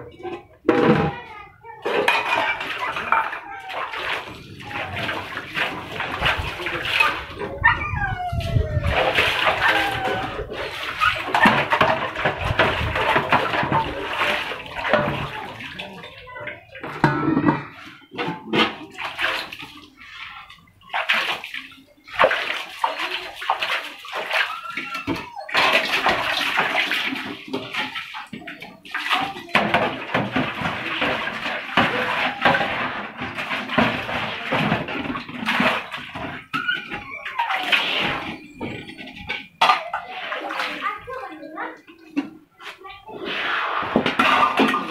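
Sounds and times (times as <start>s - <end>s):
metal pots being scrubbed: 1.8s - 7.6s, 8.5s - 20.7s, 21.7s - 44.9s
water splashing and pouring: 1.8s - 44.9s.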